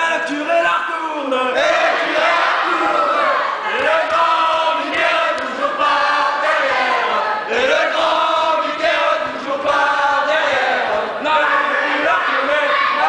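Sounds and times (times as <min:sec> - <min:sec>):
crowd singing a chant: 0:01.5 - 0:13.0.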